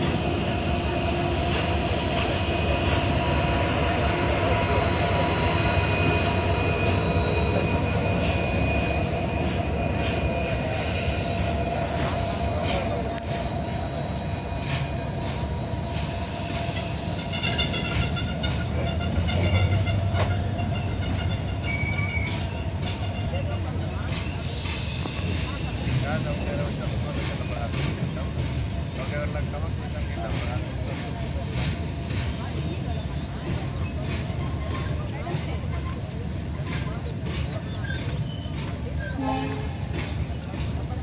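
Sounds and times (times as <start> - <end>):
high wheel squeal: 0.0 - 40.7
train wheels rumbling on rails: 0.0 - 41.0.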